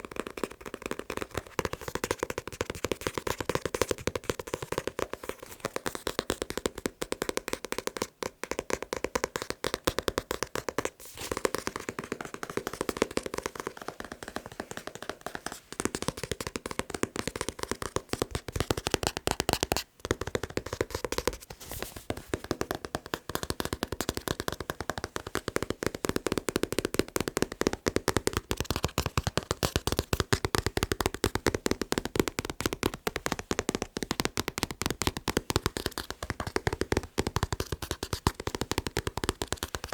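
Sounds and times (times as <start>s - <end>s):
fast tapping on a book: 0.0s - 39.9s.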